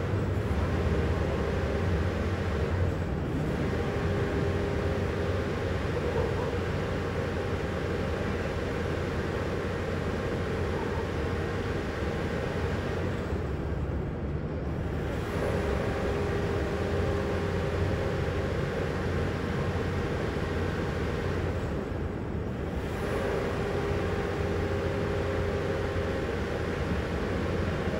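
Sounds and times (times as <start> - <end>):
low mechanical rumble: 0.0 - 27.9
mid-pitched hum: 0.0 - 27.9.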